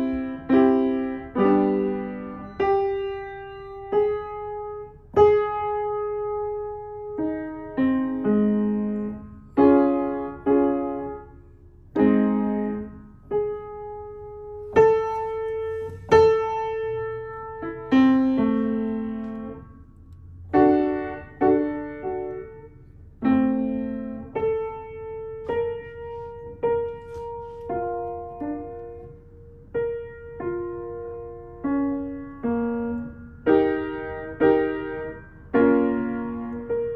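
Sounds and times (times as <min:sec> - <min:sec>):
child playing piano notes: 0:00.0 - 0:36.9.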